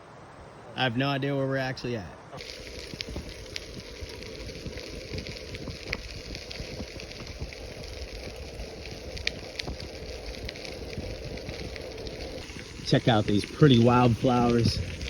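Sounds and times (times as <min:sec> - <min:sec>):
bicycle tyres on gravel: 0:02.4 - 0:15.0
wind rumble on microphone: 0:02.4 - 0:15.0.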